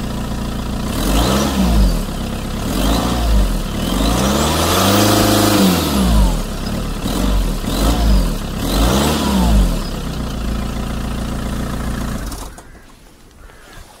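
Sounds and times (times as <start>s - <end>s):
diesel engine revving and idling: 0.0s - 12.6s.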